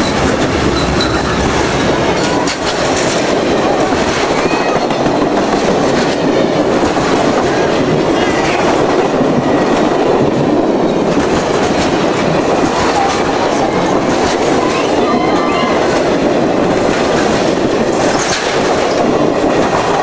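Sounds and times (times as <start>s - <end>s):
train wheels clattering over rails: 0.0s - 20.0s.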